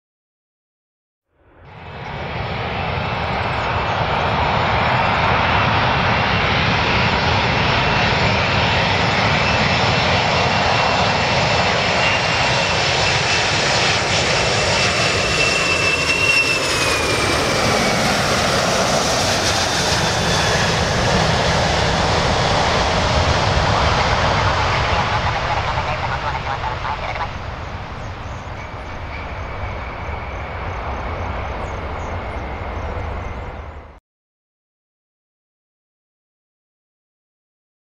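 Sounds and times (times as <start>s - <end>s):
jet airliner engines roaring: 1.4s - 34.0s.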